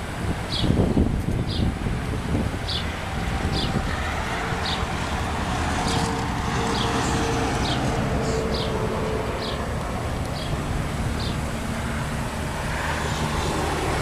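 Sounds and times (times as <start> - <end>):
traffic noise: 0.0 - 14.0.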